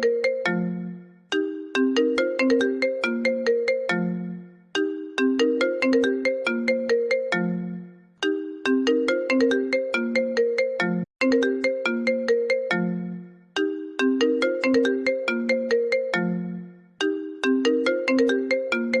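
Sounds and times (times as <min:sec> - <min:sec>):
phone message ringtone melody: 0:00.0 - 0:19.0.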